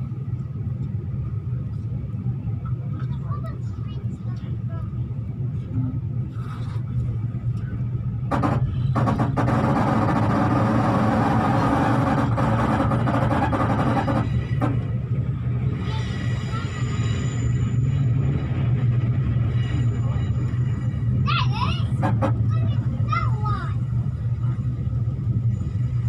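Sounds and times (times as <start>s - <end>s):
train rumbling on rails: 0.0s - 26.0s
wheel-and-rail noise: 1.6s - 26.0s.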